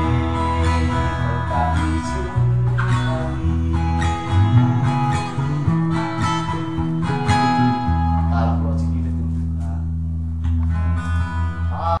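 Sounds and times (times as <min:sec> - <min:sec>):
guitars strummed and picked: 0:00.0 - 0:12.0
low bass notes: 0:00.0 - 0:12.0.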